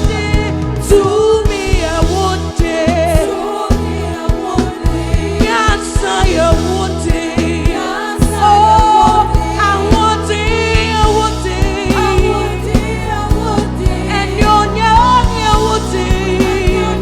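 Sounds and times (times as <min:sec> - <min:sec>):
band with bass and drums: 0:00.0 - 0:17.0
voices singing gospel: 0:00.0 - 0:17.0.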